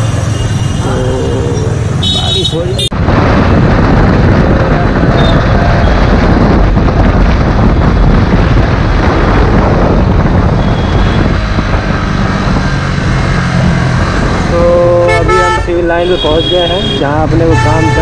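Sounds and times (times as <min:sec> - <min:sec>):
wind rushing over microphone: 0:00.8 - 0:18.0.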